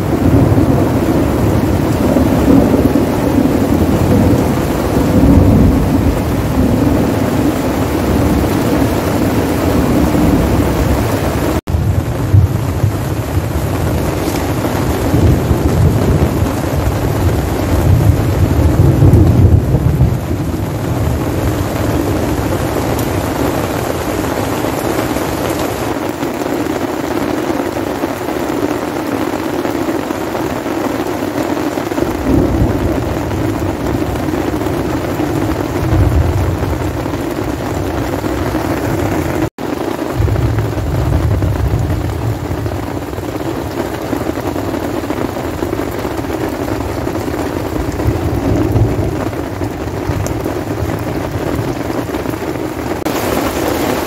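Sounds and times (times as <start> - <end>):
rain pattering on tent: 0.0 - 54.0
thunder rolling: 0.0 - 54.0.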